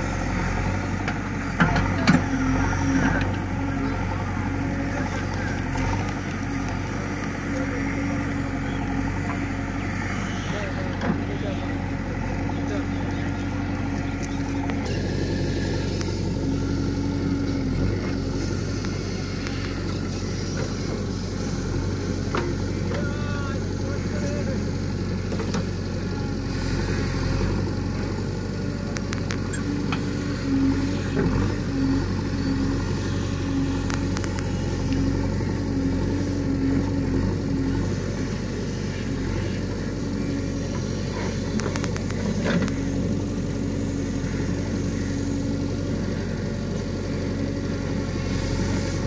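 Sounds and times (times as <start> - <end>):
backhoe diesel engine: 0.0 - 49.0.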